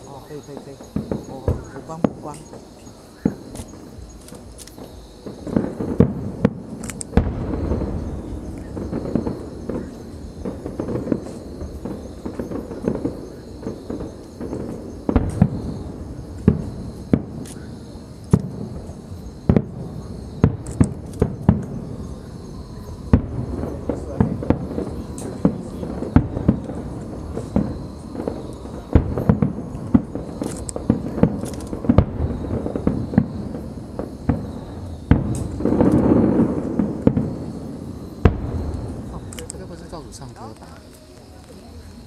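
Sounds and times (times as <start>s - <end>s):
fireworks bangs and booms: 0.0s - 42.0s.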